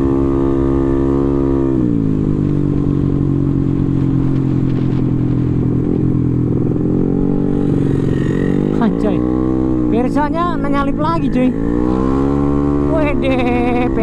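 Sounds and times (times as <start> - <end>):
wind rush: 0.0 - 13.1
scooter engine running: 0.0 - 14.0.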